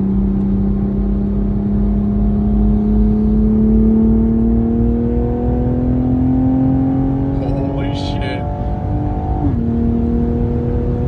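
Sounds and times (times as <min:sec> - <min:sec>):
car engine drone from inside cabin: 0:00.0 - 0:11.0.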